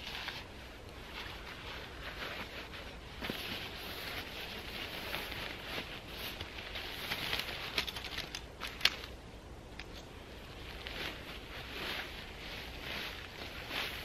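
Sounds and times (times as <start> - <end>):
tent fabric rustling: 0.0 - 9.2, 9.9 - 14.0.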